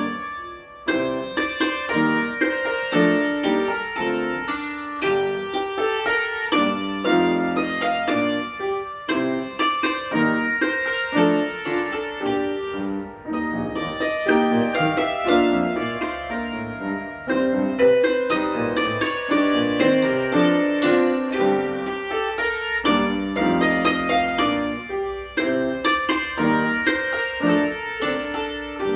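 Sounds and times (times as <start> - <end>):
cimbalom played with hammers: 0.0 - 28.9.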